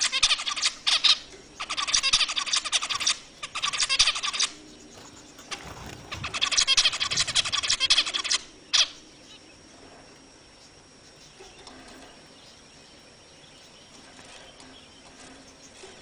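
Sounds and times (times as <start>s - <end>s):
finches chattering: 0.0s - 16.0s.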